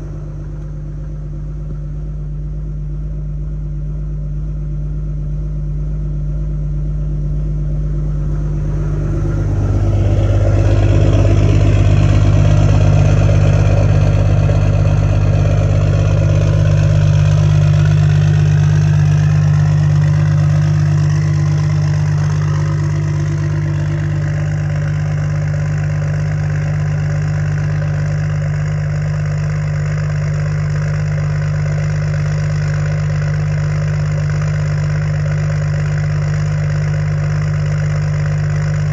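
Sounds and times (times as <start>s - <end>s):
high whine sliding in pitch: 0.0s - 3.6s, 5.9s - 34.2s
diesel engine running: 0.0s - 38.9s.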